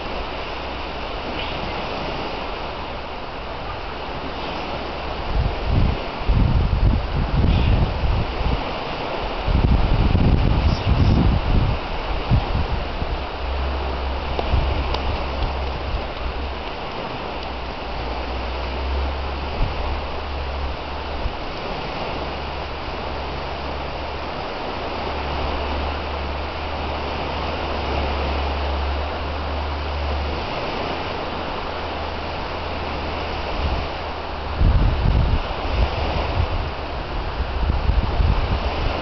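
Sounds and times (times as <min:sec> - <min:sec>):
small waves breaking on shore: 0:00.0 - 0:39.0
wind rumbling on microphone: 0:00.0 - 0:39.0.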